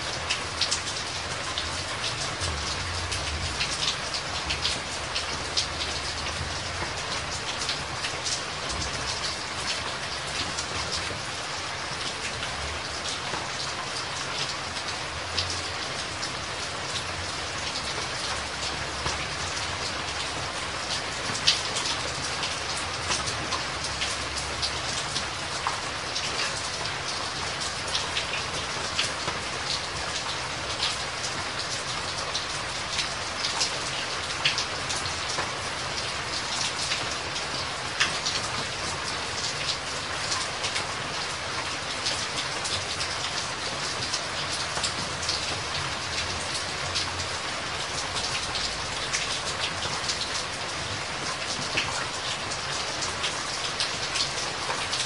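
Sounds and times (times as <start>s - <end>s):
water drips and splashes: 0.0s - 55.0s.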